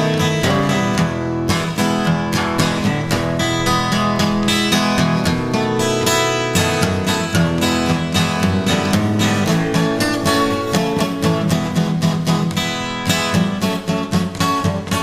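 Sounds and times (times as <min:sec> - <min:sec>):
bass guitar: 0:00.0 - 0:15.0
strummed acoustic guitar: 0:00.0 - 0:15.0.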